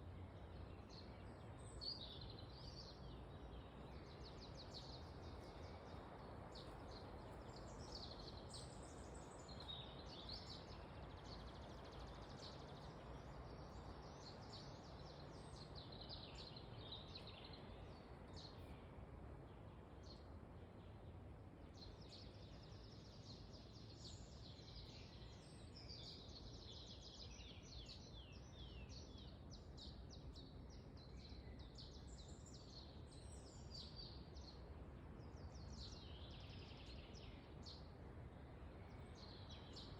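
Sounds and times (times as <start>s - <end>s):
wind in a forest: 0.0s - 39.9s.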